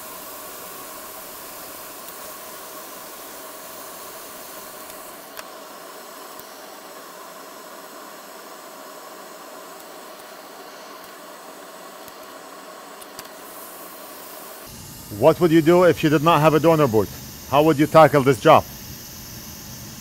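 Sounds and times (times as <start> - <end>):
airflow hiss: 0.0 - 20.0
faint fan hum: 0.0 - 20.0.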